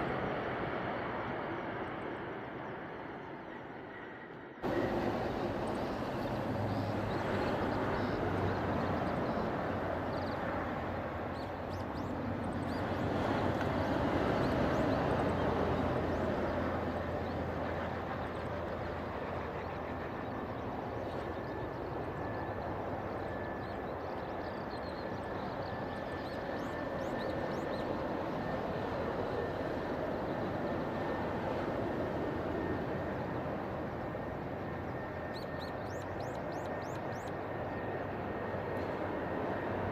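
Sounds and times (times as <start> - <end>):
faint steady whine: 0.0 - 39.9
jet engines rushing: 0.0 - 39.9
birds chirping: 2.2 - 39.9.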